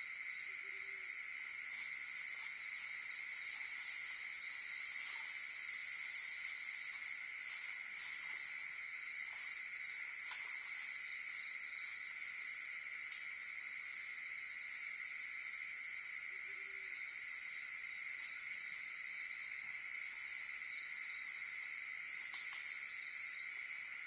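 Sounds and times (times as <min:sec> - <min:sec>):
fast pulsing insect chirp: 0:00.0 - 0:24.0
insects trilling: 0:00.0 - 0:24.0.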